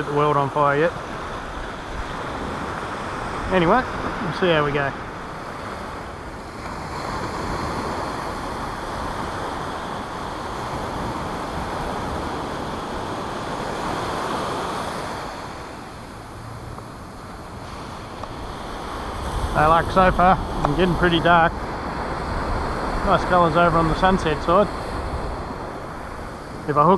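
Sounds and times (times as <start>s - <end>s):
surf breaking on a beach: 0.0s - 26.9s.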